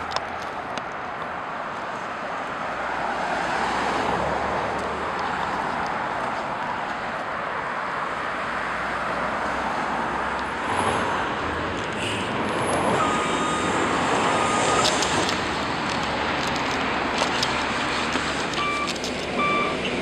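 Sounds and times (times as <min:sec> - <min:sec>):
passing traffic: 0:00.0 - 0:20.0.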